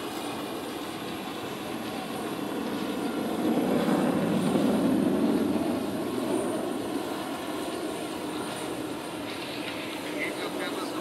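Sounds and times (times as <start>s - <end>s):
jet aircraft passing overhead: 0.0s - 11.0s.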